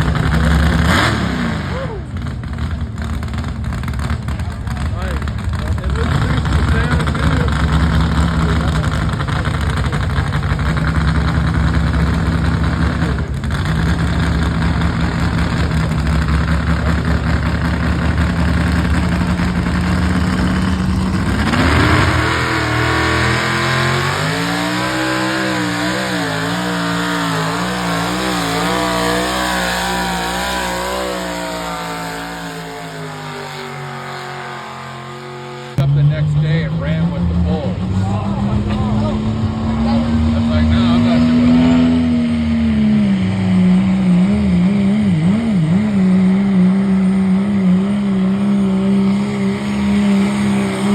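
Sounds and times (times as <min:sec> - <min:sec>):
vehicle engine labouring: 0:00.0 - 0:50.9.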